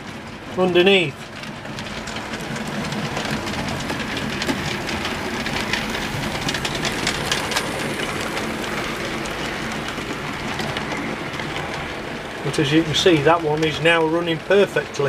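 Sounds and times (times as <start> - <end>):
model train running rumble: 0.0 - 15.0
wheels clicking on rails: 0.0 - 15.0.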